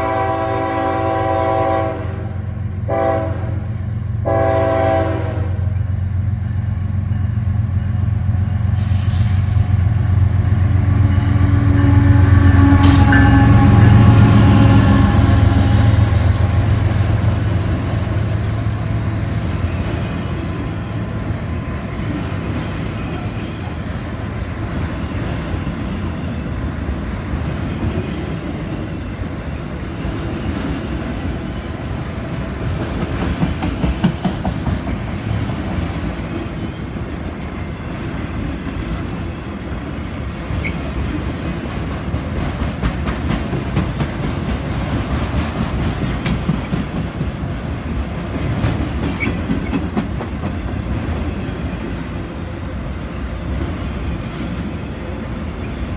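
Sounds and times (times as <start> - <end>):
train wheels rumbling and rattling: 2.6 - 55.9.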